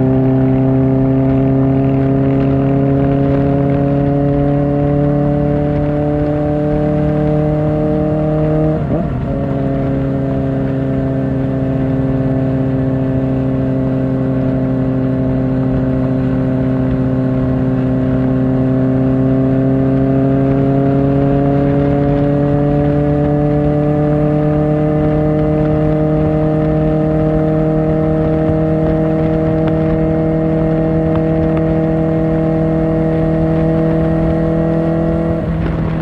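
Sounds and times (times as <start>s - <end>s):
motorcycle engine while riding: 0.0s - 36.0s.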